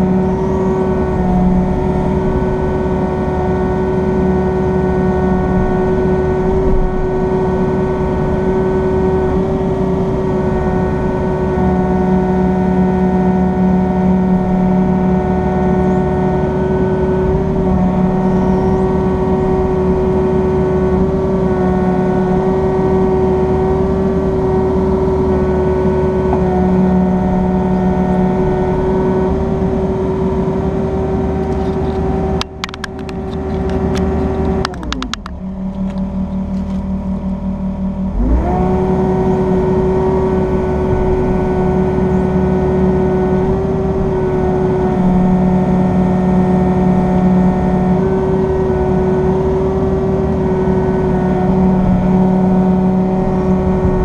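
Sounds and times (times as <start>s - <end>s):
deep hum: 0.0s - 54.0s
excavator diesel engine running: 0.0s - 54.0s
steady hydraulic whine: 0.0s - 54.0s.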